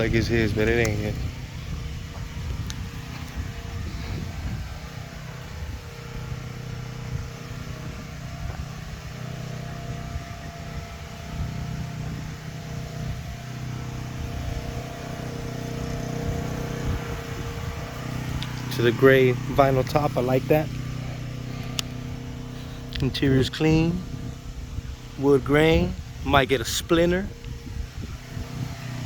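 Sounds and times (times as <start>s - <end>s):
vehicle engine idling: 0.0s - 29.0s.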